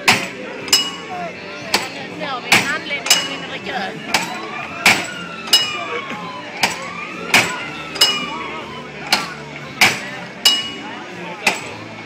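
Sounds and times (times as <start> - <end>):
hammer striking metal: 0.0 - 3.5, 4.1 - 5.9, 6.6 - 11.8.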